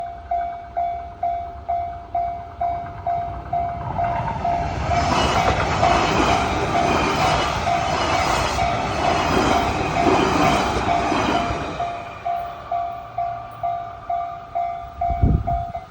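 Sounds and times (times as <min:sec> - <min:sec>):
level-crossing warning bell: 0:00.0 - 0:15.9
train passing: 0:00.0 - 0:15.9.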